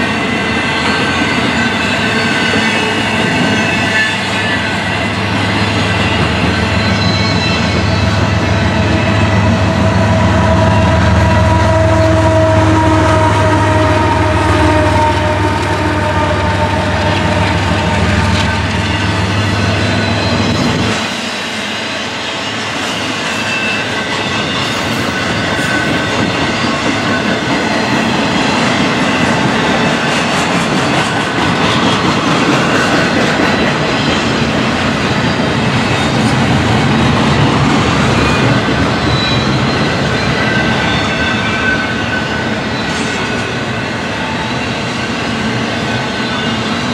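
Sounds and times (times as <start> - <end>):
diesel locomotive engine drone: 0.0 - 46.9
train wheels clattering on rails: 0.0 - 46.9.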